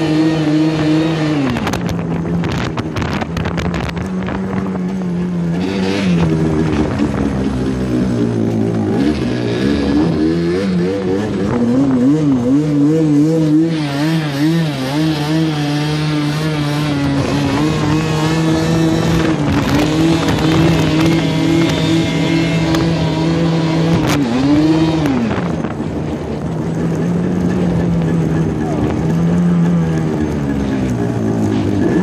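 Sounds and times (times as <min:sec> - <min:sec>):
vehicle engine running hard: 0:00.0 - 0:32.0.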